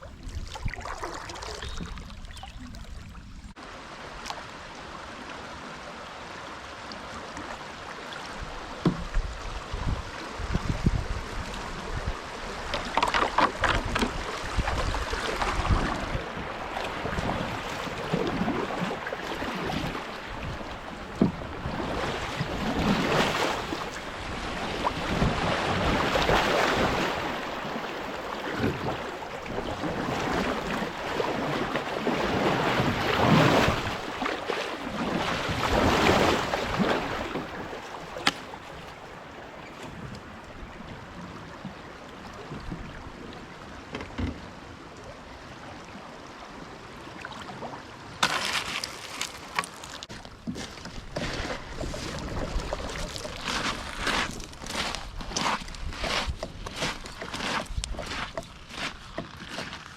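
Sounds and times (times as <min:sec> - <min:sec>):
paddle splashing in water: 0:00.0 - 0:04.5, 0:06.9 - 0:44.8, 0:47.1 - 0:59.9.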